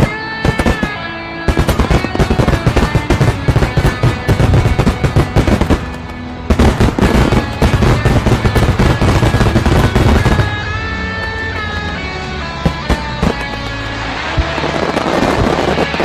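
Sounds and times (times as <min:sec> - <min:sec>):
background music: 0:00.0 - 0:16.0
fireworks crackling bangs: 0:00.0 - 0:16.0.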